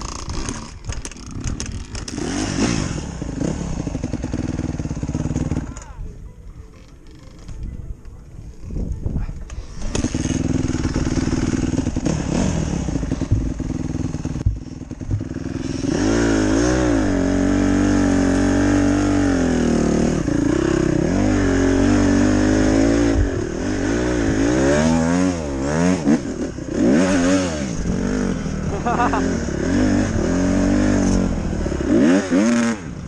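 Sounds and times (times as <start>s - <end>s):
dirt bike engine revving: 0.0s - 5.8s, 9.5s - 33.0s.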